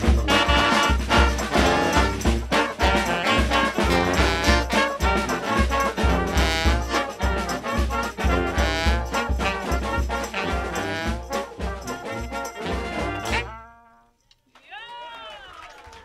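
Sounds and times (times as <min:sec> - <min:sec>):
trombones and trumpets playing: 0:00.0 - 0:14.2.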